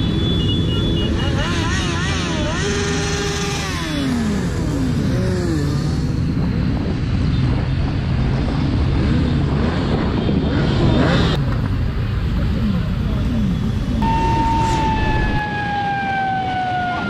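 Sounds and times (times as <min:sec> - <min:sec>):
motorcycle engines revving: 0:00.0 - 0:17.0
motorcycles riding together: 0:00.0 - 0:17.0.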